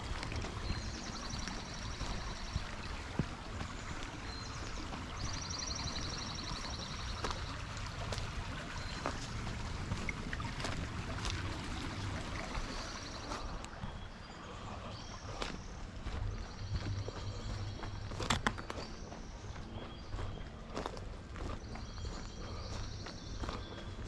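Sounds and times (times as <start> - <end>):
creek water flowing: 0.0 - 24.0.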